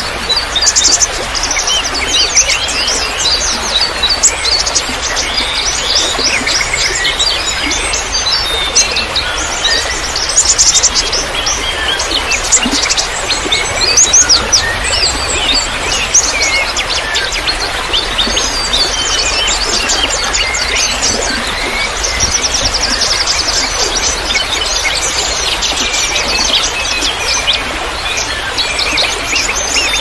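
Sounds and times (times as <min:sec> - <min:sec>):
songbirds chirping and trilling: 0:00.0 - 0:30.0
trickling water: 0:00.0 - 0:30.0.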